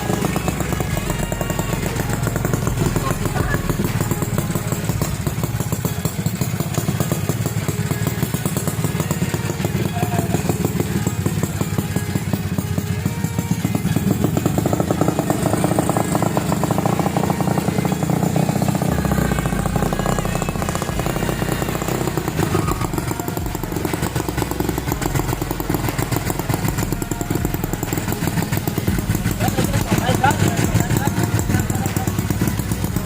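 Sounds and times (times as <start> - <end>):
scooter engine running steadily: 0.0 - 33.0.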